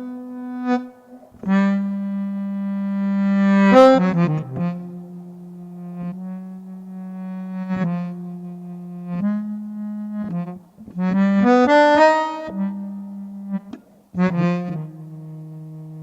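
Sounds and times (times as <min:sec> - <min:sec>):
bass melodica notes: 0:00.0 - 0:16.0.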